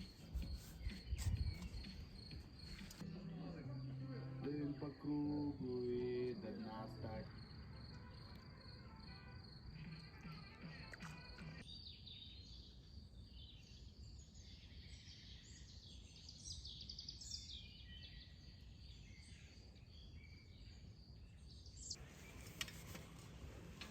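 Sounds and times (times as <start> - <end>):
birds chirping and trilling: 0.0 - 22.6.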